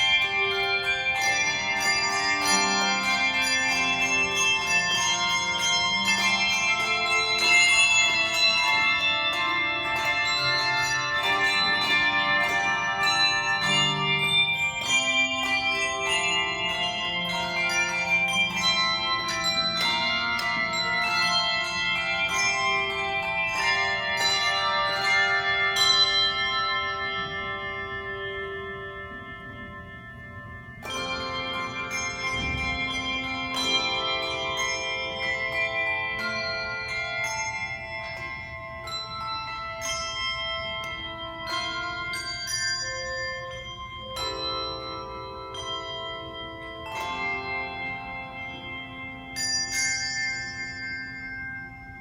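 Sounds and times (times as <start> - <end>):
handbell choir playing: 0.0 - 52.0.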